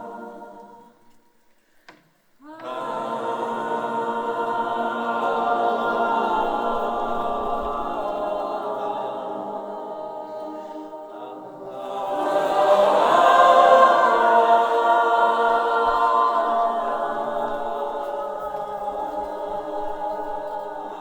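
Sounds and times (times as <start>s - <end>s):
choir singing: 0.0s - 1.4s, 2.4s - 21.0s.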